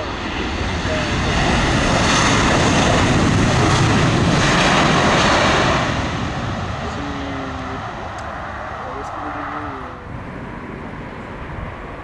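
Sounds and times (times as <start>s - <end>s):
jet engines reverse thrust roar: 0.0s - 12.0s.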